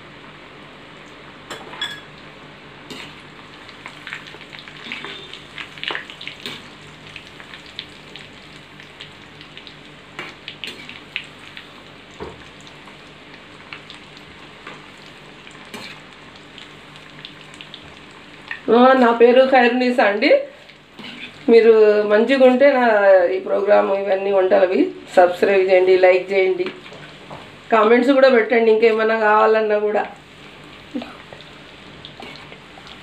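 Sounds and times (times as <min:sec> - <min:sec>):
food deep-frying in oil: 0:00.6 - 0:33.0.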